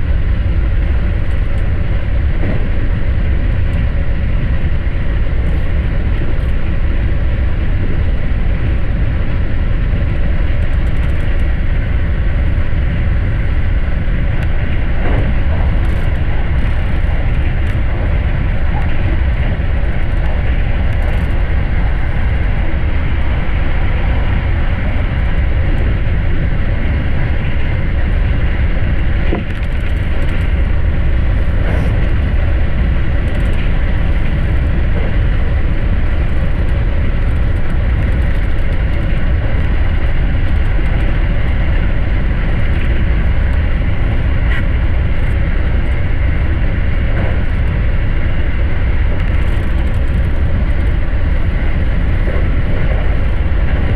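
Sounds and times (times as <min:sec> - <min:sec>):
train running at speed: 0:00.0 - 0:53.9.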